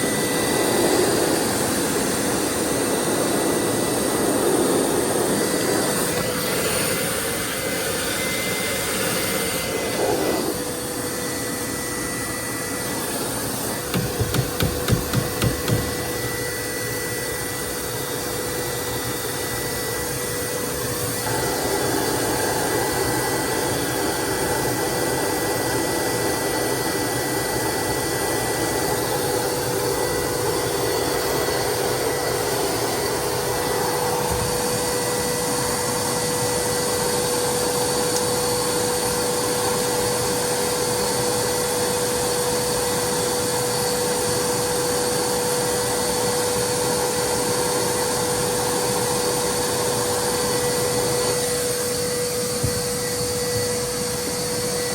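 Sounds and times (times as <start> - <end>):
wet dry vac running: 0.0 - 54.9.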